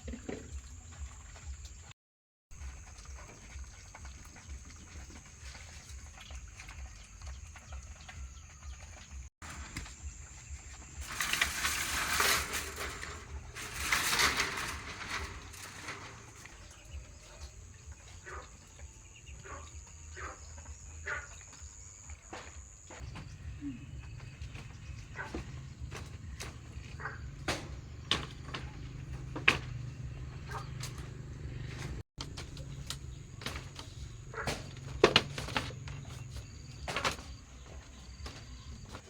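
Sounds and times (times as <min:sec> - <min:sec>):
farm animals calling: 0:02.6 - 0:39.0.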